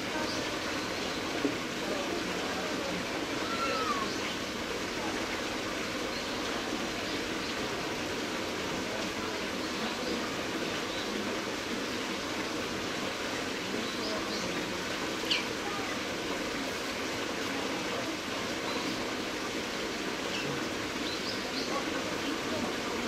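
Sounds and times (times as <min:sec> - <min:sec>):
faint distant voices: 0:00.0 - 0:23.0
outdoor background hiss: 0:00.0 - 0:23.0.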